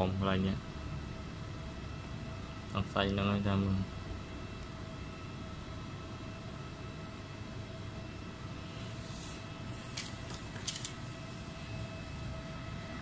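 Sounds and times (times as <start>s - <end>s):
electrical hum with whine: 0.0s - 13.0s.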